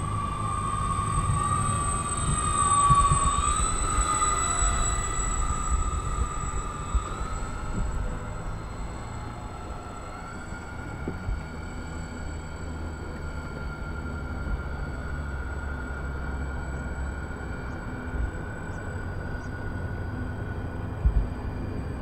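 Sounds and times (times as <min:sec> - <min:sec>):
model aircraft motors whining: 0:00.0 - 0:22.0.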